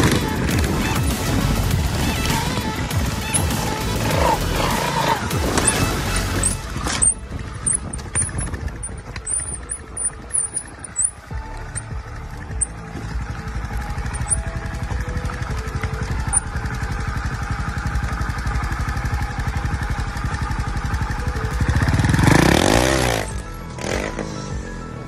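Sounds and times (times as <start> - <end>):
background music: 0.0 - 25.0
motorcycle engine revving: 0.0 - 25.0.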